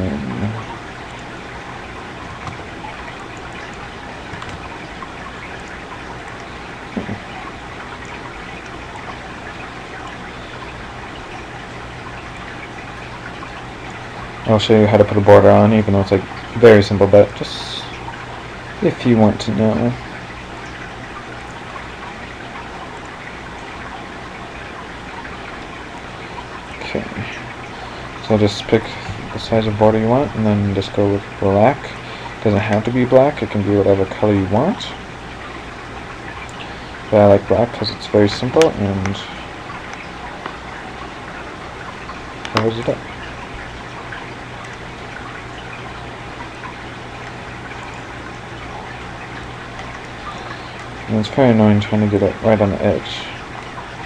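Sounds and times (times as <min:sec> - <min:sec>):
low constant hum: 0:00.0 - 0:54.0
steady background hiss: 0:00.0 - 0:54.0.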